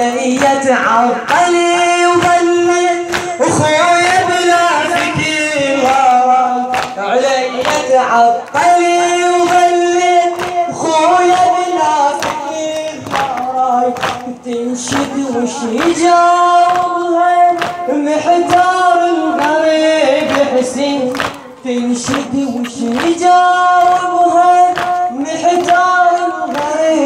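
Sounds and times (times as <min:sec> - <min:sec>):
man singing a lament: 0:00.0 - 0:27.0.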